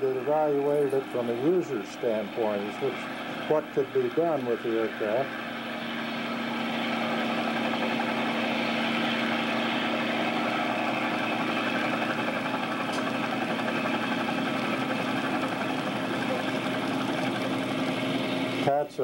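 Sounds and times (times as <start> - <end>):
machine humming and whirring: 0.0 - 19.0.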